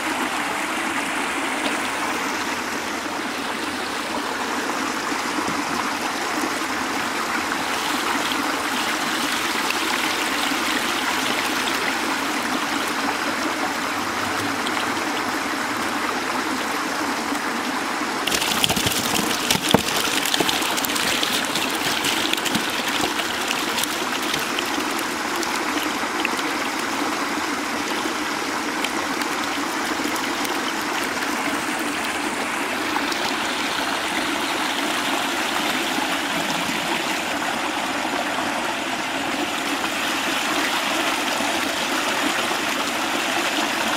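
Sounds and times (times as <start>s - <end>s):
water pouring into stream: 0.0s - 16.8s, 17.4s - 43.9s.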